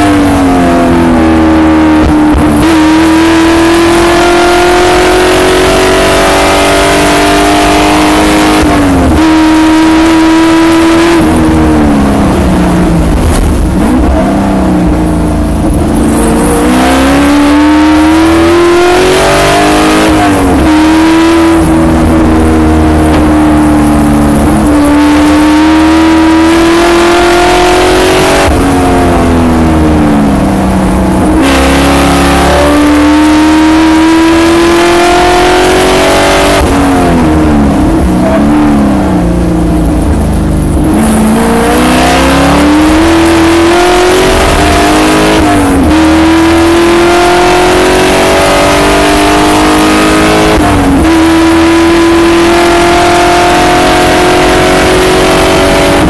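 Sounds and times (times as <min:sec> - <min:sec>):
car engine revving: 0:00.0 - 0:56.0
wind and road noise: 0:00.0 - 0:56.0.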